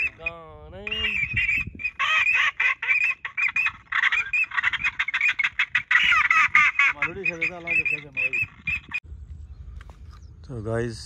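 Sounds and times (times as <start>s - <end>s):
ducks whistling and quacking: 0.0s - 9.0s.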